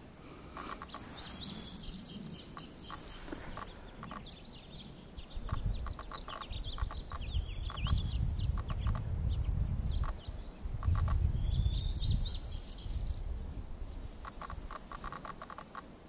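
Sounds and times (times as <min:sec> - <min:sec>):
bird singing: 0:00.0 - 0:16.0.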